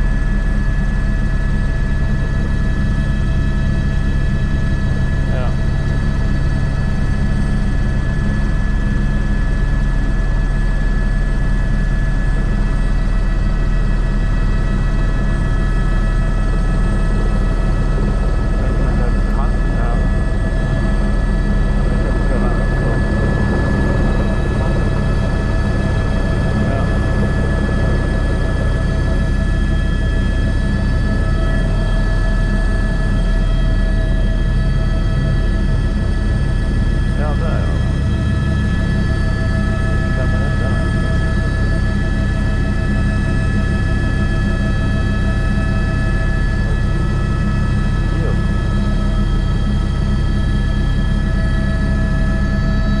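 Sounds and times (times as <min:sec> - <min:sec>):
helicopter rotor drone: 0:00.0 - 0:53.0
high turbine whine: 0:00.0 - 0:53.0.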